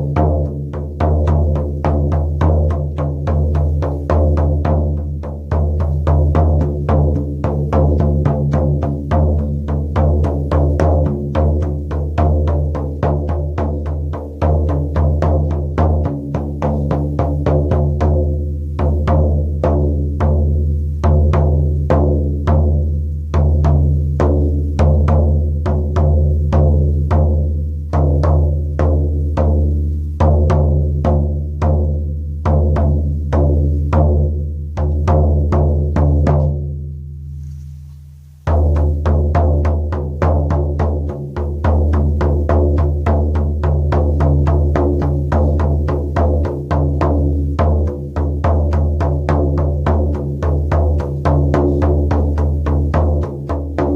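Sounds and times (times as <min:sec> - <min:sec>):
frame drum beating: 0:00.0 - 0:53.9.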